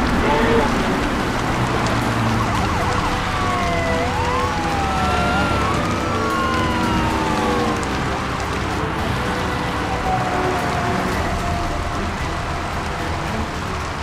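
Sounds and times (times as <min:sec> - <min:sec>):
low engine rumble: 0:00.0 - 0:14.0
siren wailing: 0:00.0 - 0:14.0
steady rain: 0:00.0 - 0:14.0.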